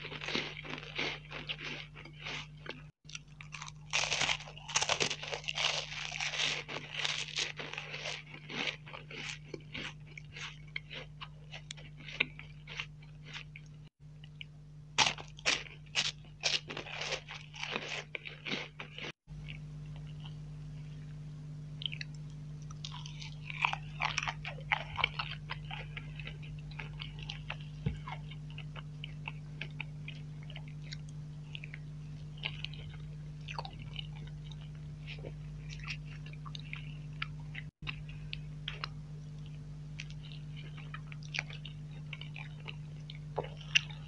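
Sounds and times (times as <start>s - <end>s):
crunching wafer biscuit: 0.0s - 21.2s, 21.8s - 44.0s
steady low hum: 0.0s - 44.0s.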